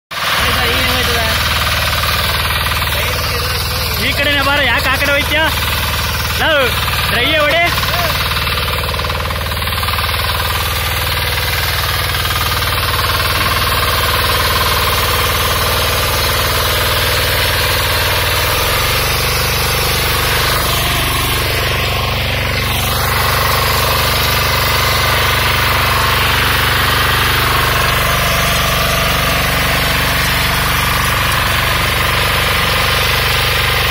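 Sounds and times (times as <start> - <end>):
diesel power tiller clattering: 0.1 - 33.9.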